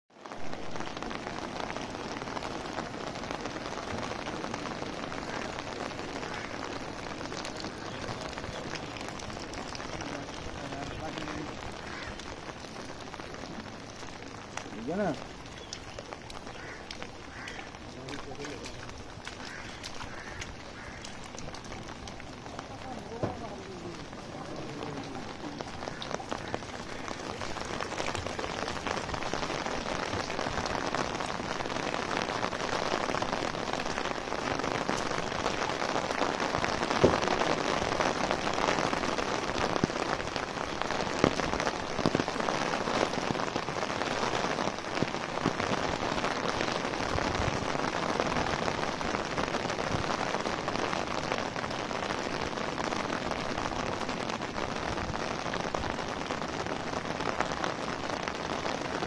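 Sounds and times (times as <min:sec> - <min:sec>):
rain on wet ground: 0:00.1 - 0:59.0
rain pattering on umbrella: 0:00.1 - 0:59.0.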